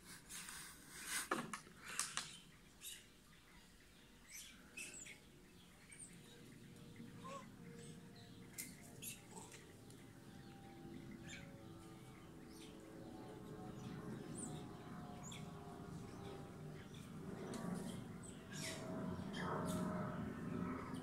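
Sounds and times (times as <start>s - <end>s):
low steady hum: 2.3s - 21.0s.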